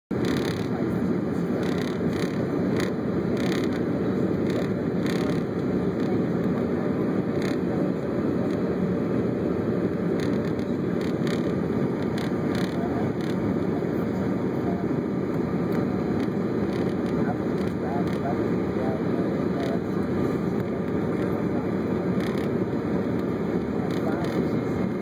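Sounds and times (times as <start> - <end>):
airplane cabin engine rush: 0.1 - 25.0.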